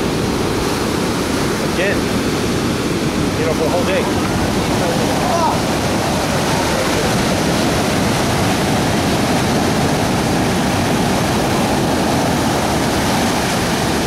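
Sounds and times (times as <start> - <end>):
ocean surf breaking on sand: 0.0 - 14.0.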